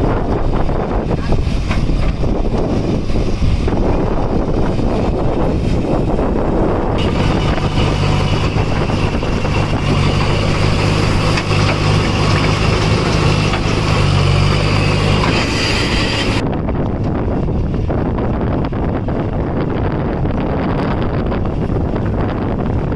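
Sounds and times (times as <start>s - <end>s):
diesel engine running: 0.0s - 22.9s
low rumbling noise: 0.0s - 22.9s.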